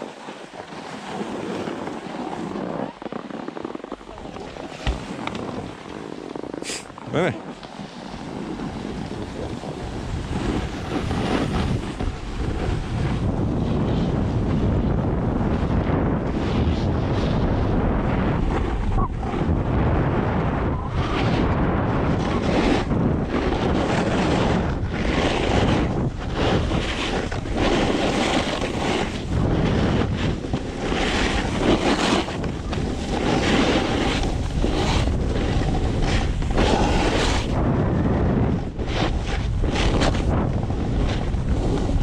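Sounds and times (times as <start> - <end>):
snowboard scraping across snow: 0.0 - 42.0
wind rushing over microphone: 0.0 - 42.0.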